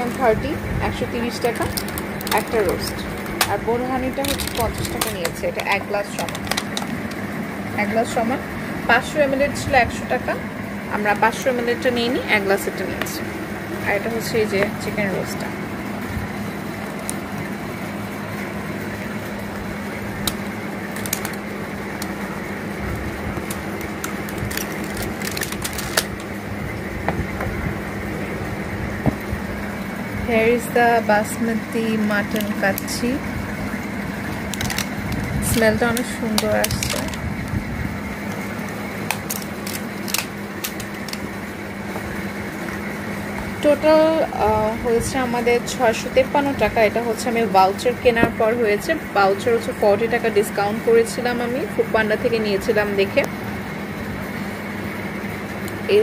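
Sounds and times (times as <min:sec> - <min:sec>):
background hum and hiss: 0:00.0 - 0:56.0
fan whooshing: 0:00.0 - 0:56.0.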